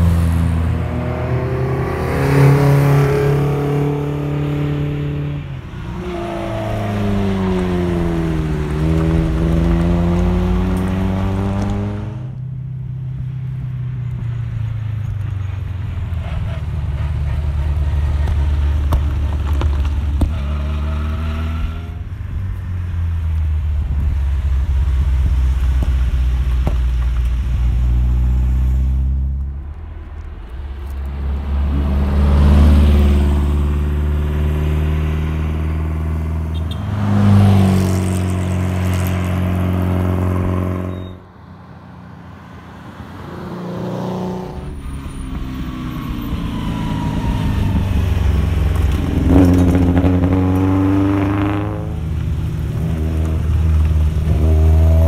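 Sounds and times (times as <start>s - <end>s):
rally cars passing revving: 0.0s - 55.0s.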